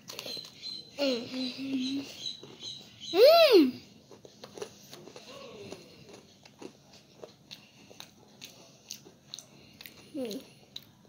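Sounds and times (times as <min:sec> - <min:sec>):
child chewing crunchy snack: 0:00.0 - 0:03.0, 0:03.8 - 0:11.0.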